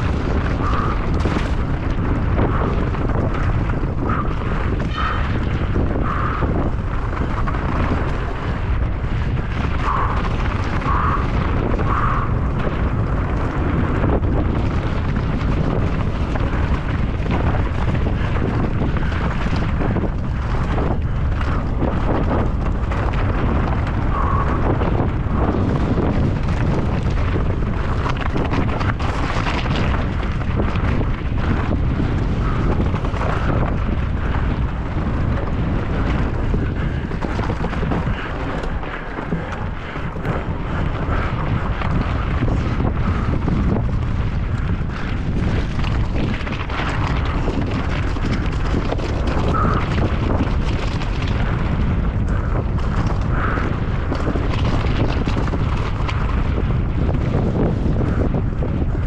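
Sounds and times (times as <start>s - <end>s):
bike rattling over rough ground: 0.0s - 59.0s
wind rushing over microphone: 0.0s - 59.0s.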